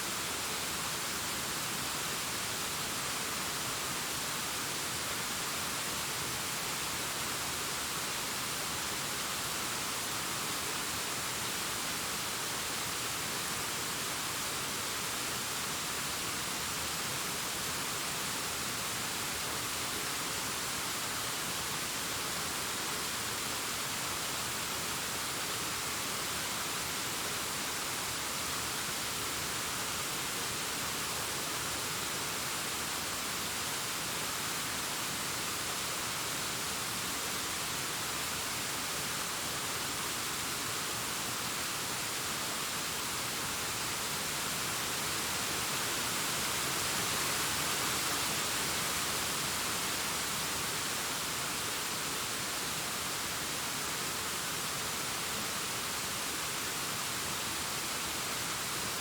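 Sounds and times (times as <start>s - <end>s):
distant waterfall rushing: 0.0s - 59.0s.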